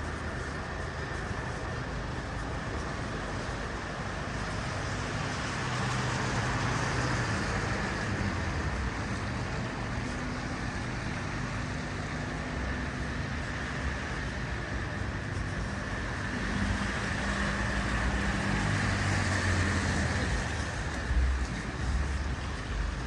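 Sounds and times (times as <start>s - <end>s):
city street traffic: 0.0s - 23.0s.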